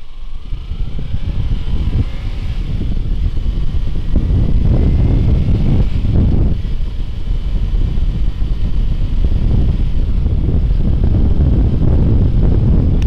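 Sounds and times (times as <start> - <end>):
motorcycle engine and tyre rumble: 0.0 - 13.0
wind buffeting microphone: 0.0 - 13.0.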